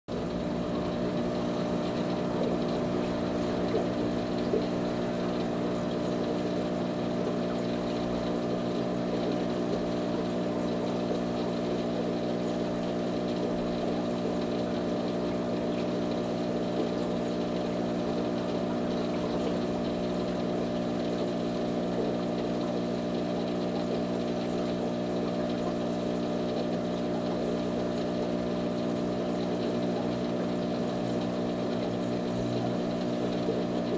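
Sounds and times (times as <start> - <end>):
aquarium pump humming: 0.1 - 33.9.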